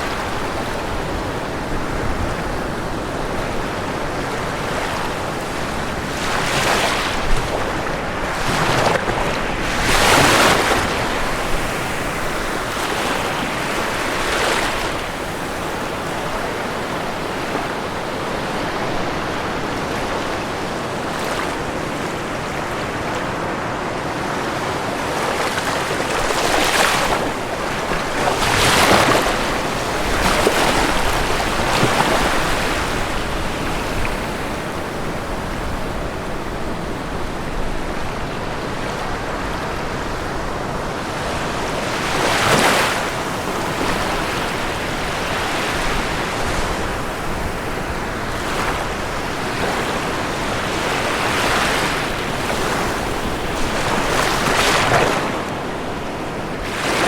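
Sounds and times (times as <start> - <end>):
ocean waves breaking: 0.0 - 57.0
surf washing: 0.0 - 57.0.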